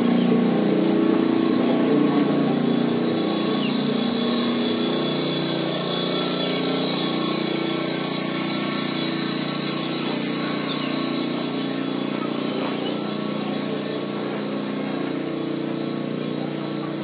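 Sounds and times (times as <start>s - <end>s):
faint high whine: 0.0s - 17.0s
steady mechanical hum: 0.0s - 17.0s.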